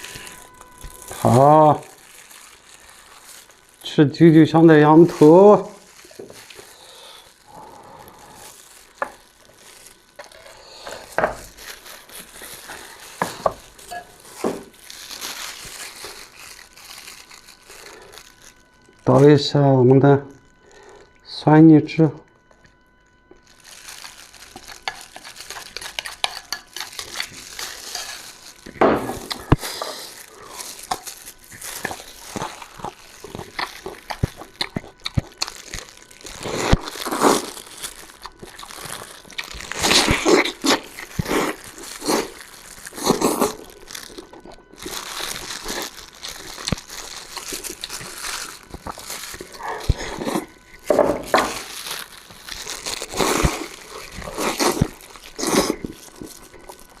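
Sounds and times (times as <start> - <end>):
crinkling noises: 0.0 - 57.0
wet sucking and chewing: 4.8 - 18.9, 23.4 - 57.0.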